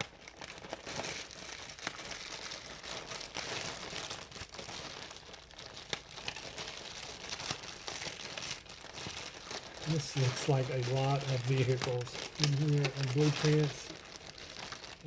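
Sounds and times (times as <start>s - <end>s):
plastic bag rustling: 0.2s - 15.0s.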